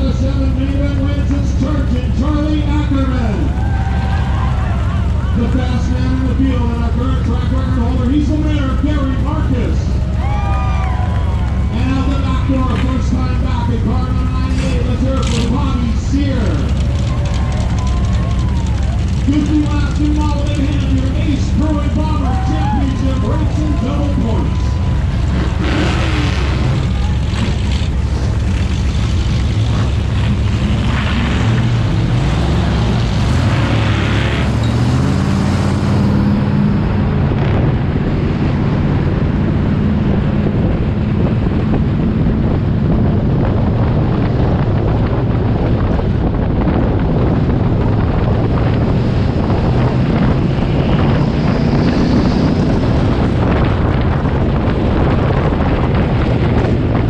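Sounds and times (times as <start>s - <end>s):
race car engine revving: 0.0s - 57.0s
wind rushing over microphone: 0.0s - 57.0s.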